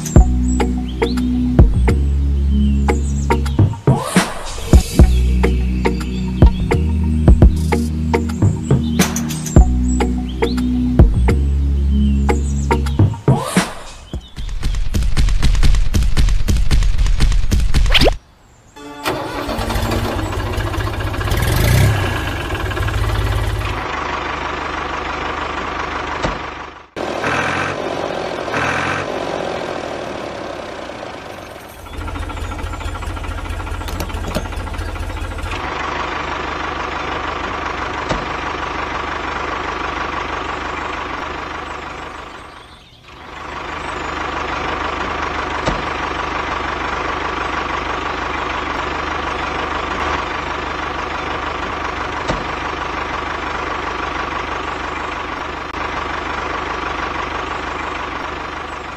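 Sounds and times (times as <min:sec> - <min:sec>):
tractor engine idling: 0:00.0 - 0:13.2, 0:18.8 - 0:58.9.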